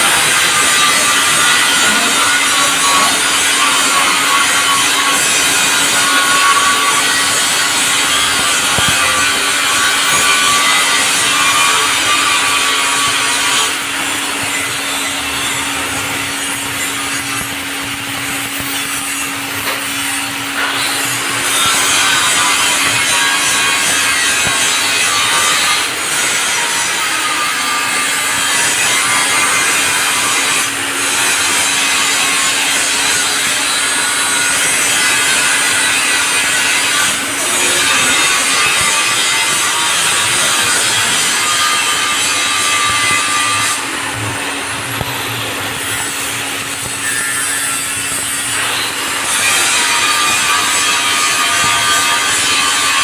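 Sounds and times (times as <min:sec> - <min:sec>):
welding arc crackling and hissing: 0:00.0 - 0:53.0.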